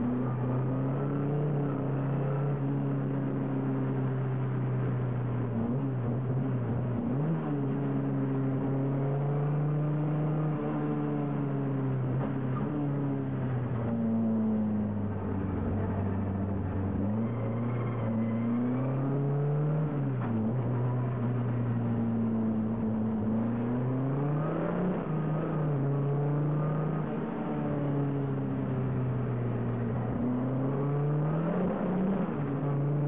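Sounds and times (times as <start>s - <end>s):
sports car engine accelerating: 0.0s - 33.0s.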